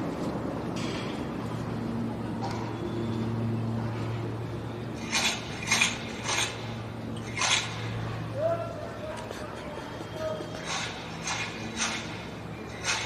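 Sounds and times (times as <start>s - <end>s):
jet engines droning: 0.0s - 13.0s.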